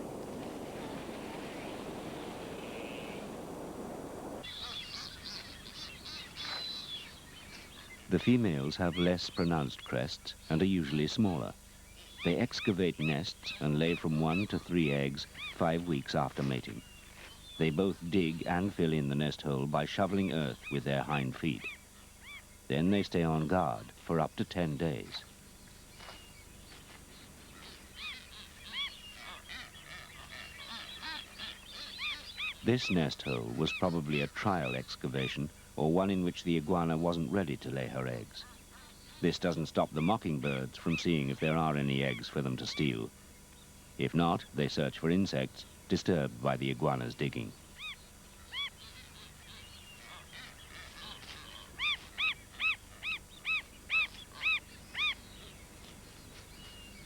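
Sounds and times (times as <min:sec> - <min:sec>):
birds honking calls: 0:00.0 - 0:25.4, 0:26.0 - 0:57.0.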